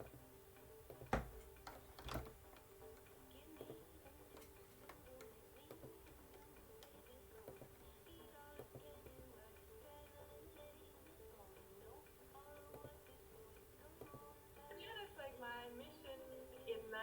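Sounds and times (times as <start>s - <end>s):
faint background music: 0.0s - 17.0s
quiet clicking: 0.0s - 17.0s.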